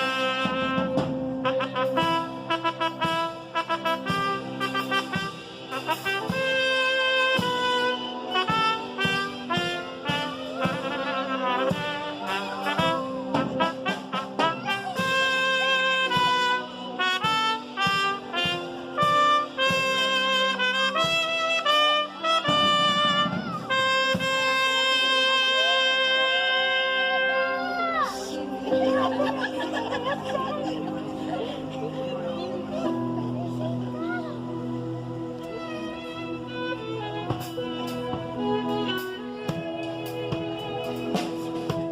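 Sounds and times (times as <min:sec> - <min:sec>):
trumpets playing a fanfare: 0:00.0 - 0:41.9.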